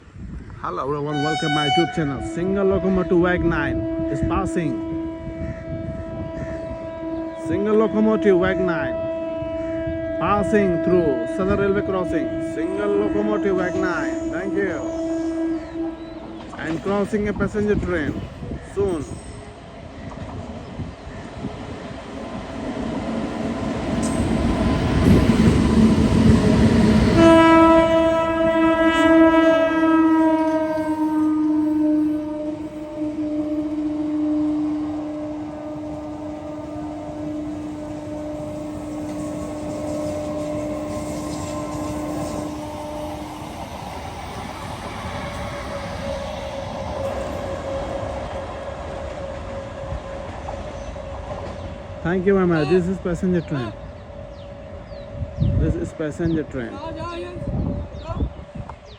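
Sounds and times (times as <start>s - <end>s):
train rumbling on rails: 0.0s - 58.9s
locomotive horn blast: 1.1s - 56.3s.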